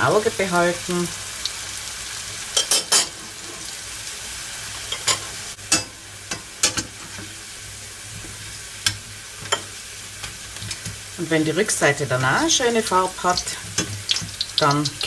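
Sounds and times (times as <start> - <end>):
pancakes sizzling in oil: 0.0 - 15.0.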